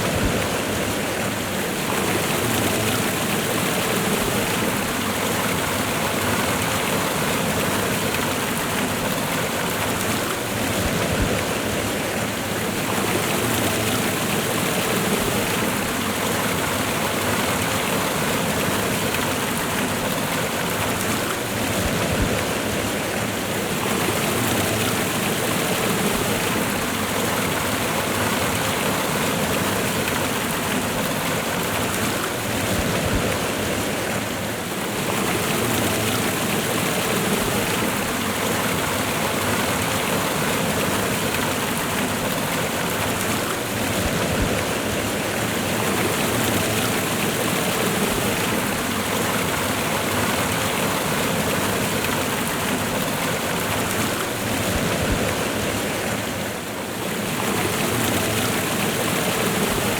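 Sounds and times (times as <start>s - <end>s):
waterfall and river rushing: 0.0s - 59.9s.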